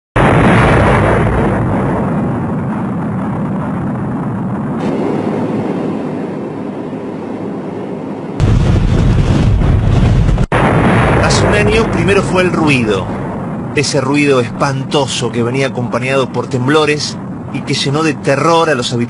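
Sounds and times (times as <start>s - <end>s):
loud low noise: 0.2s - 18.5s
volcanic eruption deep rumbling: 0.2s - 19.0s.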